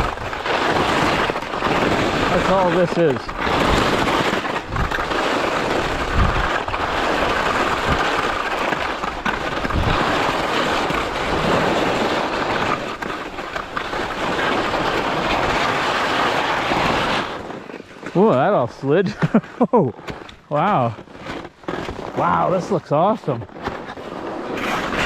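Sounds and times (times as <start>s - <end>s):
skis scraping over snow: 0.0s - 25.0s.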